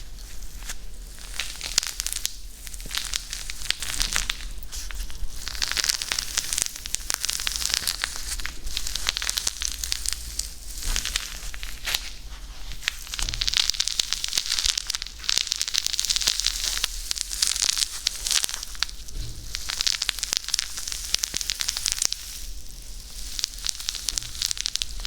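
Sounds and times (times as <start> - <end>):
fine clicks and crinkles: 0.0 - 25.0.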